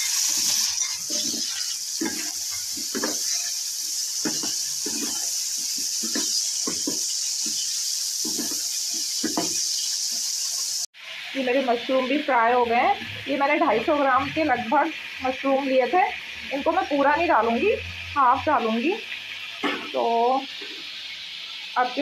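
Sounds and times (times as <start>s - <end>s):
mushrooms sizzling in hot oil: 0.0s - 22.0s.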